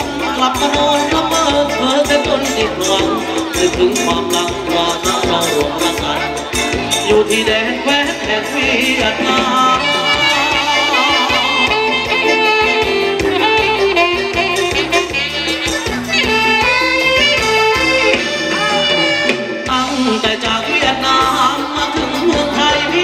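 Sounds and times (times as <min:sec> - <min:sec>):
instrumental melody: 0:00.0 - 0:23.0
person singing: 0:00.0 - 0:23.0
steady drum beat: 0:00.0 - 0:23.0.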